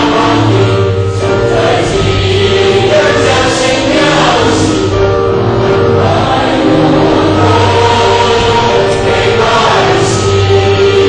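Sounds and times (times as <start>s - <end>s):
choral background music: 0.0s - 11.0s.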